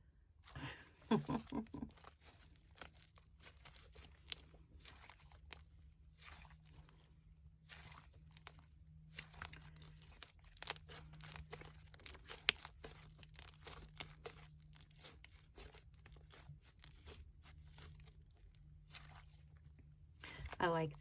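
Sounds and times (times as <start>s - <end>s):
slime squished by hand: 0.4s - 20.6s.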